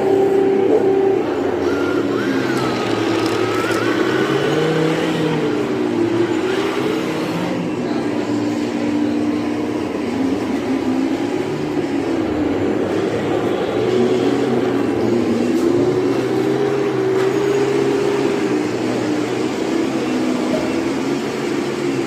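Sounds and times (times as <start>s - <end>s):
model vehicle motors whining: 0.0s - 22.0s.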